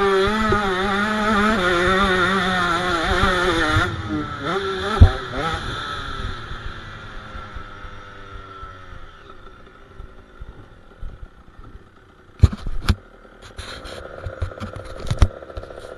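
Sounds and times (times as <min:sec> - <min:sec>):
dirt bike engine: 0:00.0 - 0:15.9.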